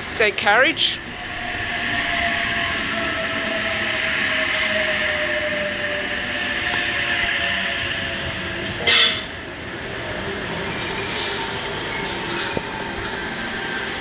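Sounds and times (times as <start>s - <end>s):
train rail noise: 0.0s - 14.0s.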